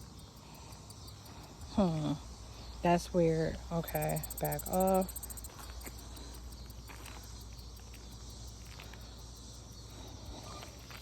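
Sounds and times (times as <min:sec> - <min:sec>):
insects chirping drone: 0:00.0 - 0:11.0.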